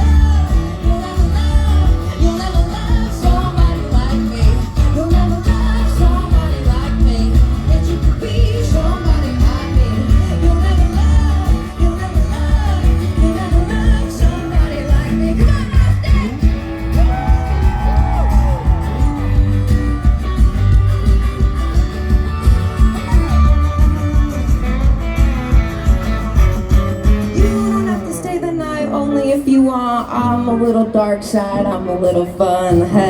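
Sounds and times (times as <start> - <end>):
person singing: 0.0 - 24.5, 27.3 - 33.0
live pop band playing: 0.0 - 33.0.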